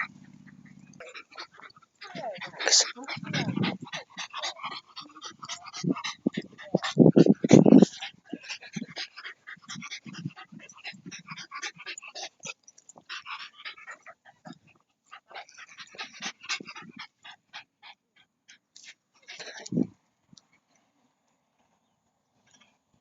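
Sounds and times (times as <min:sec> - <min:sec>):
dog panting: 0:00.0 - 0:19.9.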